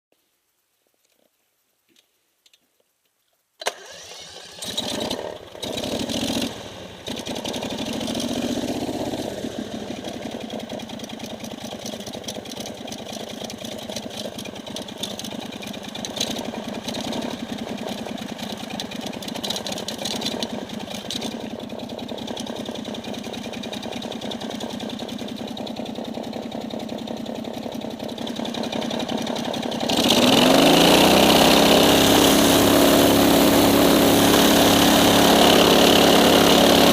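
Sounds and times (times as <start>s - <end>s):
engine starting and running: 3.6s - 36.9s.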